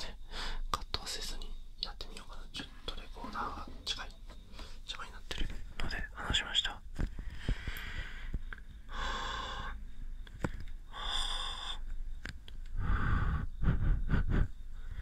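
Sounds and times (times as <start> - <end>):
soft breaths: 2.3 - 15.0.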